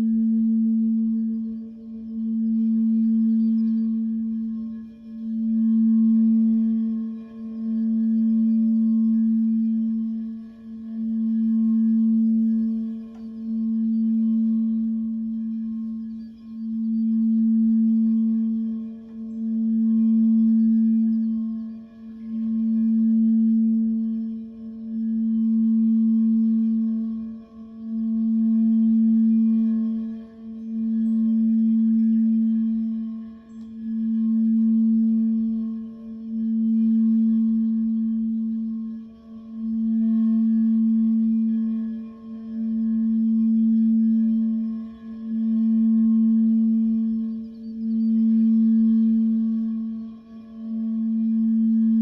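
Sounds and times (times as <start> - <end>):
crystal singing bowl ringing: 0.0 - 52.0.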